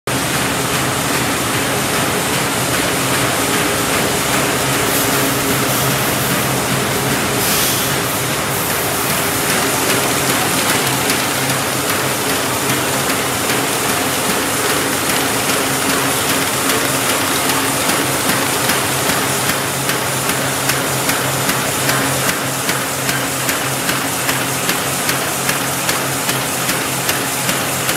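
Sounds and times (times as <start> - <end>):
machine clatter and hum: 0.1 - 27.9.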